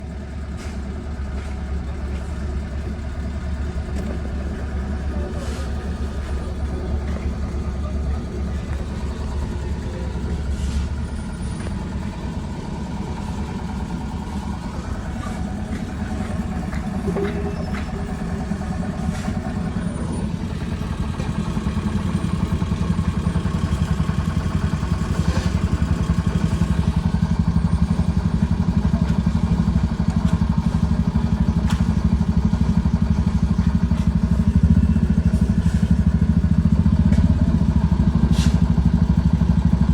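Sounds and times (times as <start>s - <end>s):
engine running with low throb: 0.0s - 39.9s.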